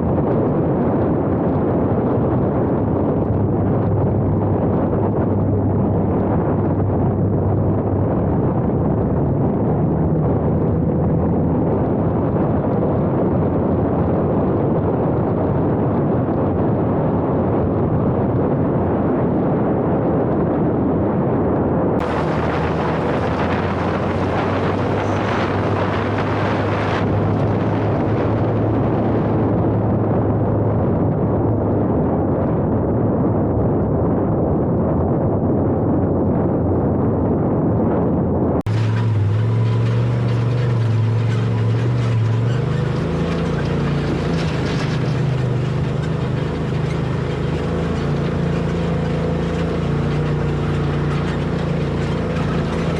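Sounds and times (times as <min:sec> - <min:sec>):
off-road vehicle engine rumbling: 0:00.0 - 0:52.9
wind buffeting microphone: 0:00.0 - 0:52.9.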